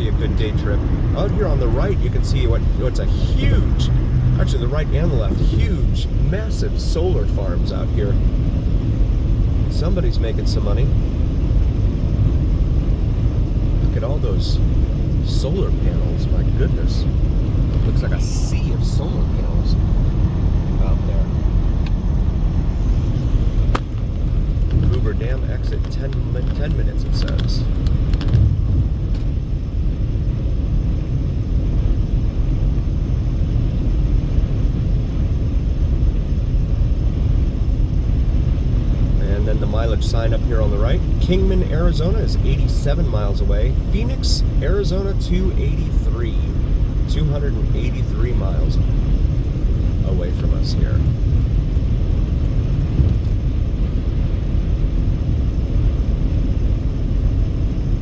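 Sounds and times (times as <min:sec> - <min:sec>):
car road and tyre noise: 0:00.0 - 0:58.0.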